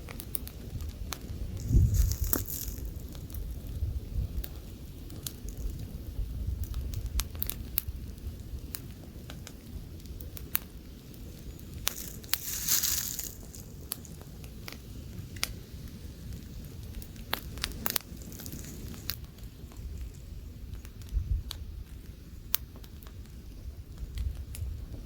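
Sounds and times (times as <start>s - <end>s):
campfire crackling: 0.0s - 25.0s
light wind: 0.0s - 25.0s.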